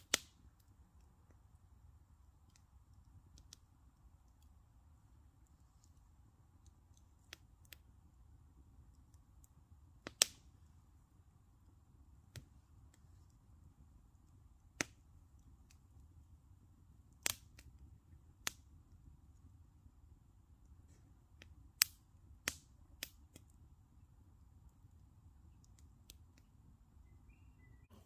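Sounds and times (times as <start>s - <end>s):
campfire crackling: 0.0s - 27.6s.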